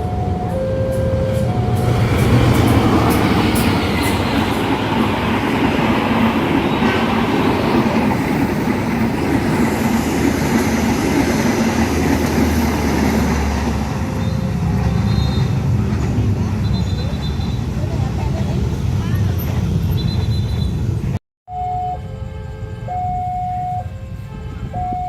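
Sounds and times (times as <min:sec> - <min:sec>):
train wheels rushing on rail: 0:00.0 - 0:21.2.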